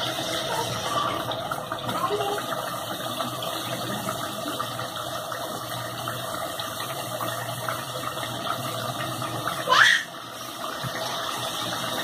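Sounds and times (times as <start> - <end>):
curry sizzling in oil: 0.0 - 12.0.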